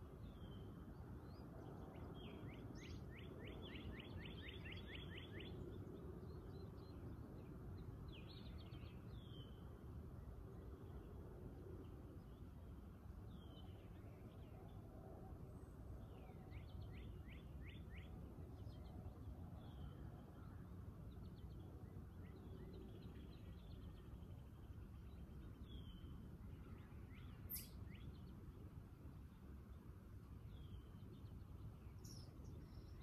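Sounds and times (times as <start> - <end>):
faint low rumble: 0.0 - 33.0
songbird chirps: 0.0 - 33.0.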